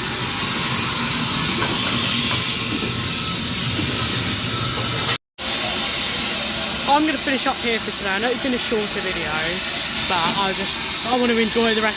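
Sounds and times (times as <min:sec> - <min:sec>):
steam engine hissing: 0:00.0 - 0:11.9.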